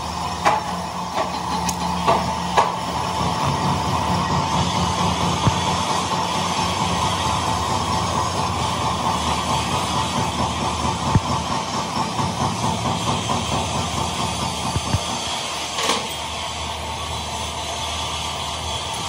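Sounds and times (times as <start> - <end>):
factory machinery motor whine: 0.0 - 19.0.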